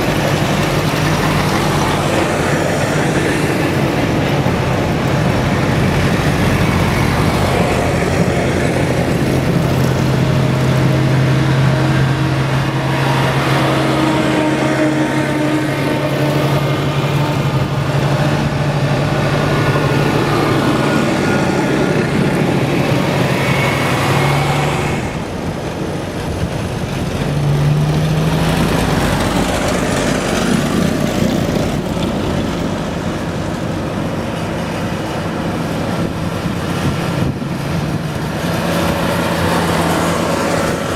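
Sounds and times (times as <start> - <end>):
tractor engines running: 0.0 - 40.9.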